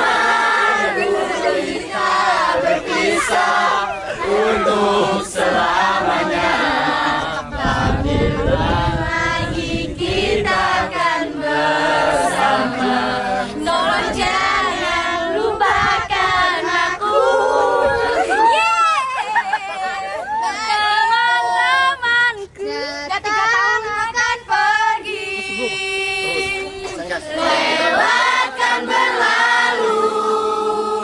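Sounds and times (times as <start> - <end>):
group of teenagers singing: 0.0 - 18.5, 20.4 - 22.6, 23.7 - 31.0.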